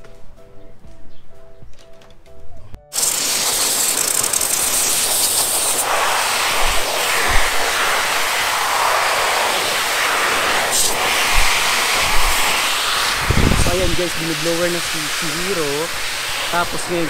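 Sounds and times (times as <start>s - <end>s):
grooming blower rushing air: 2.9s - 17.0s.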